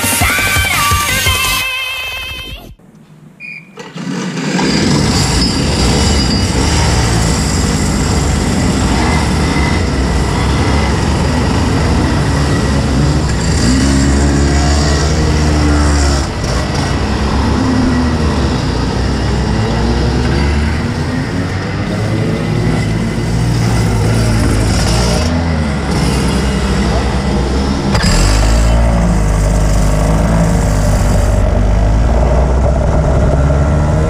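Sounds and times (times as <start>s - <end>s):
kart engines idling: 2.9s - 34.0s.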